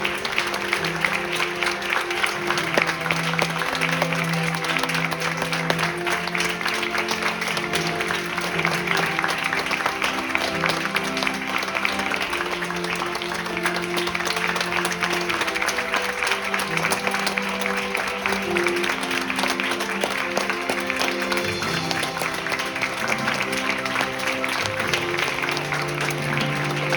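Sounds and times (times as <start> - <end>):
audience applauding: 0.0 - 26.9.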